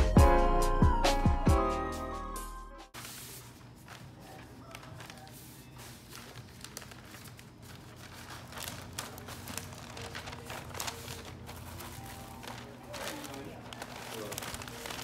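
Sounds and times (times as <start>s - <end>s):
quiet background music: 0.0s - 15.0s
paper and cellophane crinkling: 3.0s - 15.0s.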